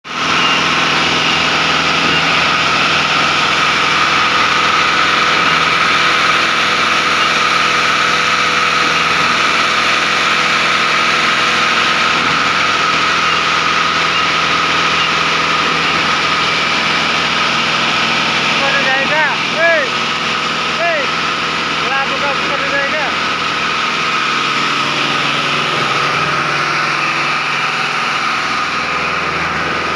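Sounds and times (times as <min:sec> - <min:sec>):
pump engine running: 0:00.0 - 0:29.9
sustained whine: 0:00.1 - 0:29.9.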